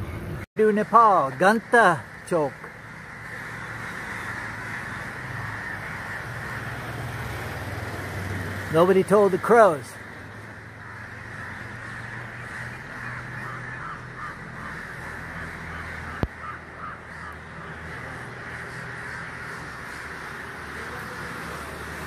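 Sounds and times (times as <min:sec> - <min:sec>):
crows cawing: 0:00.6 - 0:22.0.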